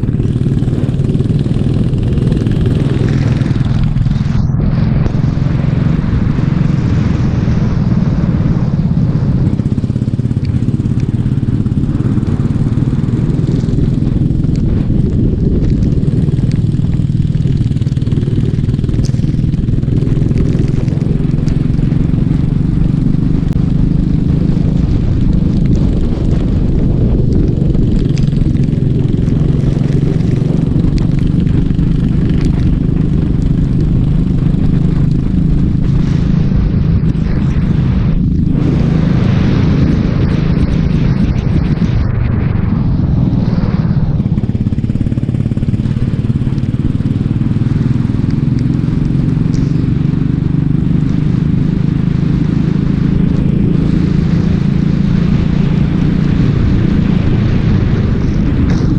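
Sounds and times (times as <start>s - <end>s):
kart engine droning: 0.0s - 58.9s.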